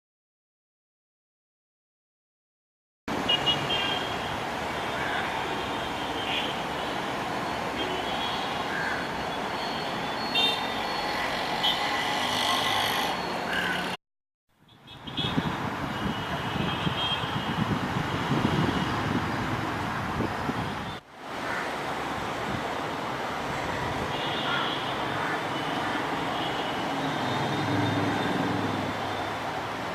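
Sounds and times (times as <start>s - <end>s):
road traffic rumble: 3.1s - 29.9s.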